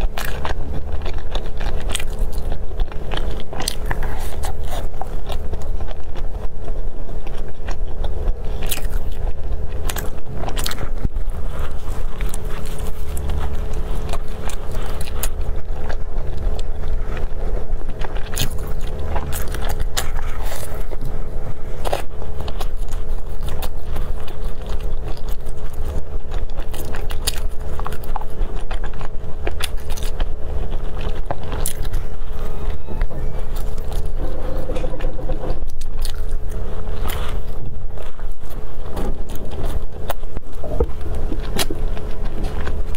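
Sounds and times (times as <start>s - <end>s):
low hum: 0.0s - 42.9s
person chewing corn: 0.0s - 42.9s.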